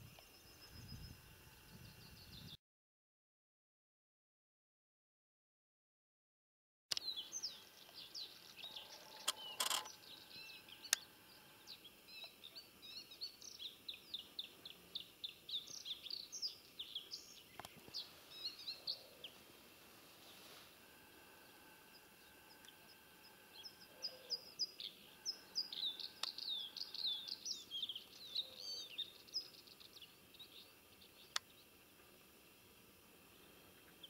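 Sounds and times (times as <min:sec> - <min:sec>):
small songbirds chirping: 0:00.0 - 0:02.6, 0:06.9 - 0:34.0.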